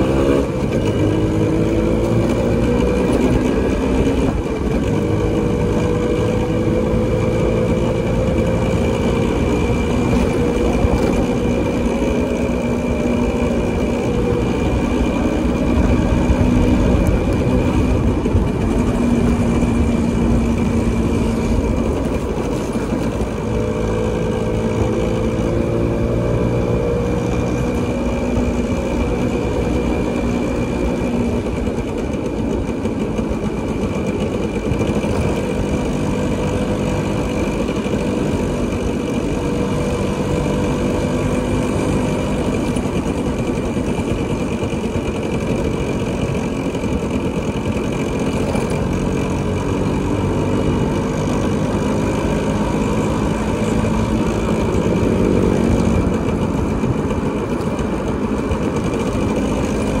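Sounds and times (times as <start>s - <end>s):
low rumble of road noise: 0.0s - 60.0s
motorcycle engine running: 0.0s - 60.0s.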